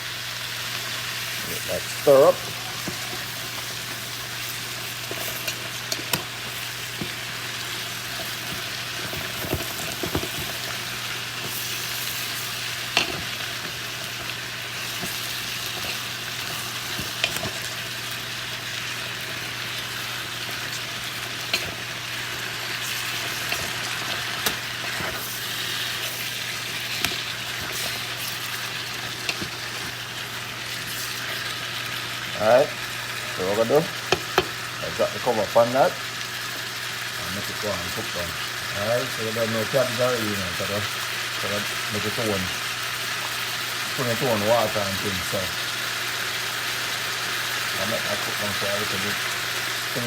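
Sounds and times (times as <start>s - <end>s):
cabbage sizzling in a pan: 0.0s - 50.0s.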